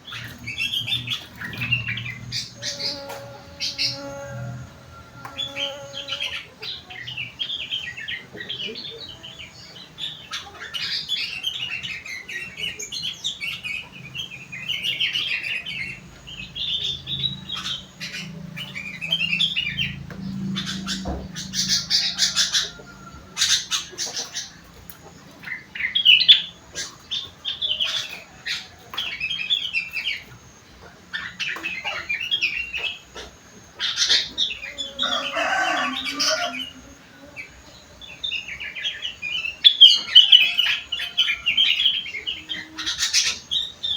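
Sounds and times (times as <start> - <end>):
bird singing chirping phrases: 0.0 - 43.9.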